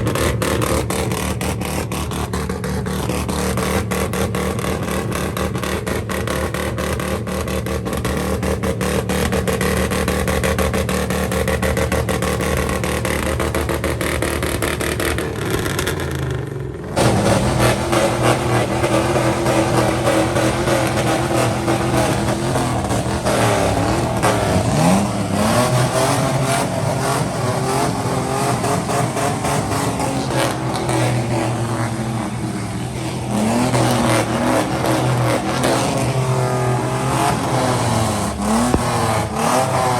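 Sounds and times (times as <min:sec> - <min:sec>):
car and truck exhausts revving: 0:00.0 - 0:39.9.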